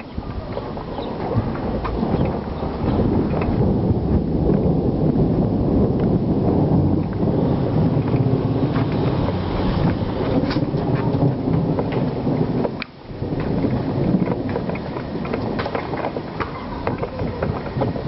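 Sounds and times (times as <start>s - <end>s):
rain: 0.0s - 18.0s
wind buffeting microphone: 0.0s - 18.0s.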